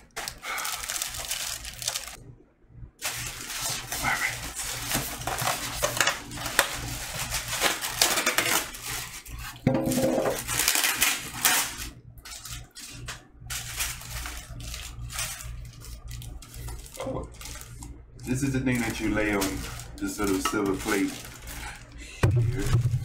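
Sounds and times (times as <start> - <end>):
styrofoam and plastic wrap rustling: 0.0 - 2.2, 3.0 - 23.0.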